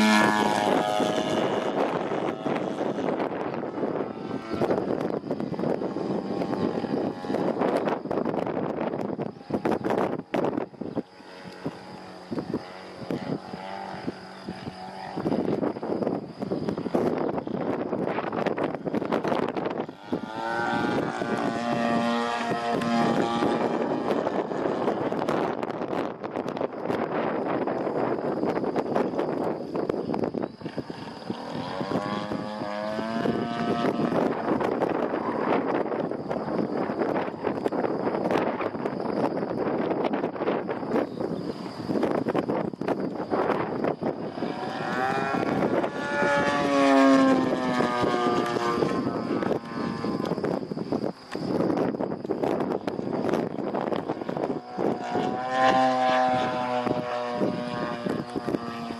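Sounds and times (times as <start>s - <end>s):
plane engine droning overhead: 0.0s - 58.9s
wind buffeting microphone: 0.0s - 58.9s.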